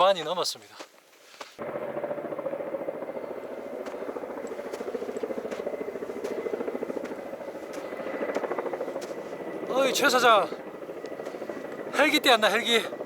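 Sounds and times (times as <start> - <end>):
helicopter rotor blades beating: 1.6 - 13.0.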